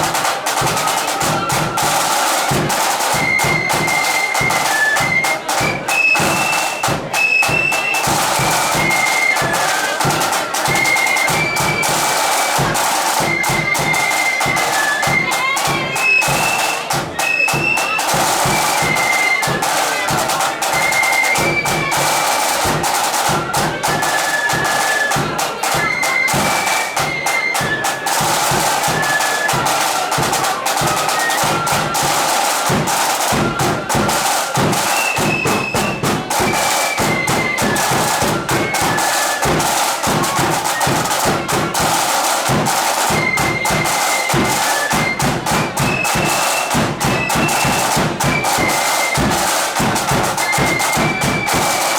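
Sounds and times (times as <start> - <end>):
flutes playing high melody: 0.0 - 51.9
snare and bass drumming: 0.0 - 51.9.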